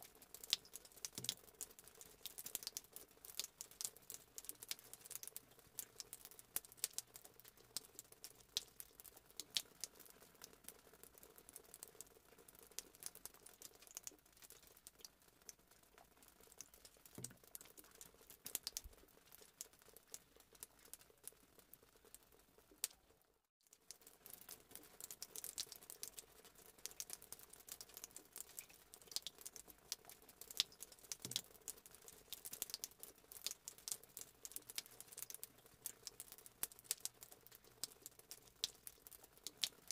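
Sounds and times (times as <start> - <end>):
fritters crackling in hot oil: 0.0 - 39.9.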